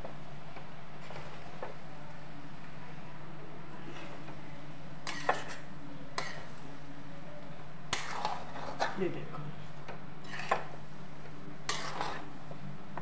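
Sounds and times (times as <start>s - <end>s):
spatula stirring noodles in a pan: 0.0s - 3.0s, 3.7s - 13.0s.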